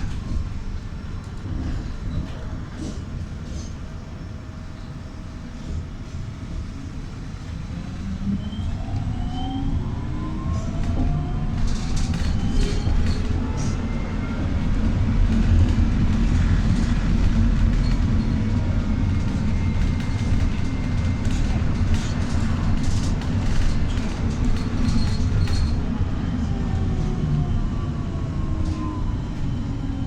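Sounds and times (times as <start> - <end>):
trolleybus ride rumble: 0.0 - 30.0.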